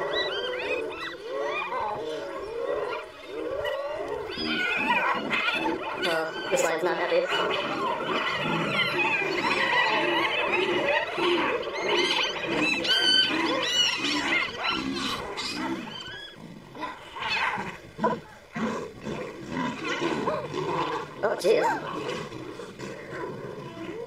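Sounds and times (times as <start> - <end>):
hyenas whooping and yelping: 0.0 - 24.0
lion growling and roaring: 0.0 - 24.0.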